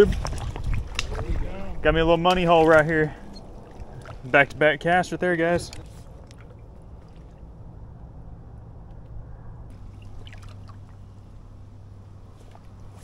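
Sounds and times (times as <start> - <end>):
water swishing around wading legs: 0.0 - 8.2, 9.7 - 13.0
steady low rumble: 0.0 - 13.0.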